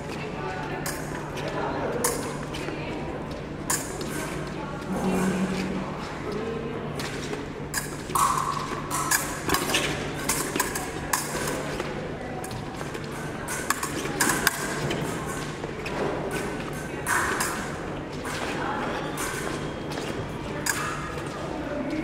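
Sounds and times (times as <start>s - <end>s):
murmur of voices in echoing hall: 0.0s - 22.0s.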